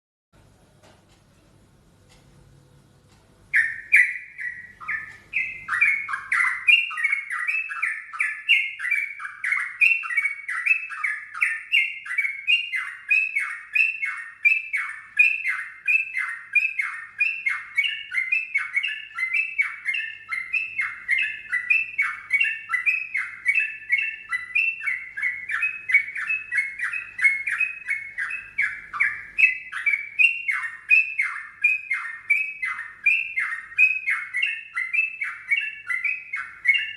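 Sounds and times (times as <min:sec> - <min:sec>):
bird singing falling notes: 0:03.3 - 0:36.9.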